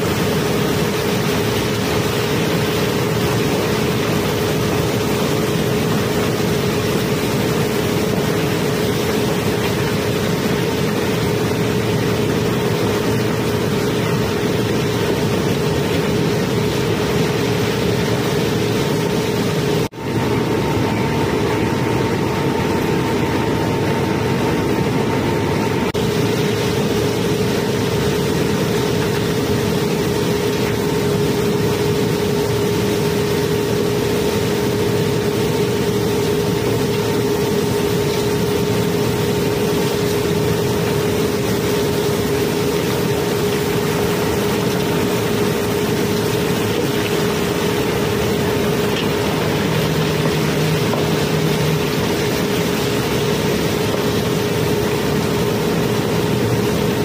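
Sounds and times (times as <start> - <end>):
conveyor machinery humming: 0.0 - 57.0.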